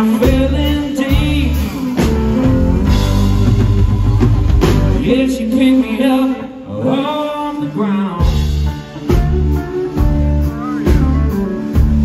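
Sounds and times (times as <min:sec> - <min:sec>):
blues-rock band playing: 0:00.0 - 0:12.0
electric guitar line: 0:00.0 - 0:12.0.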